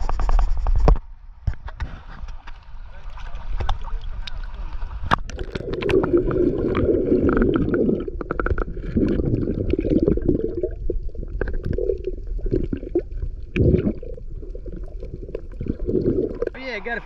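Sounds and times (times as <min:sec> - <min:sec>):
muffled water sloshing and gurgling: 0:02.1 - 0:17.0.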